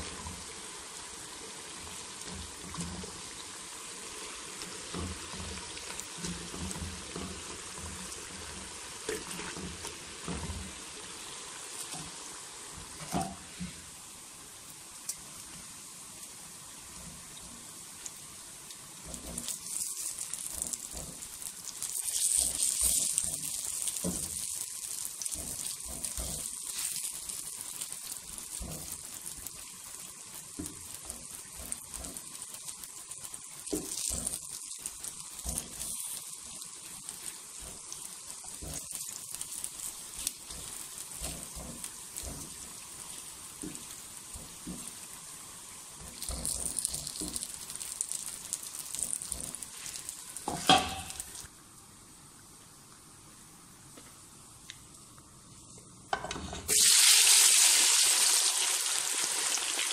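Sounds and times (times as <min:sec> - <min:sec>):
patties sizzling in hot oil: 0:00.0 - 0:59.9.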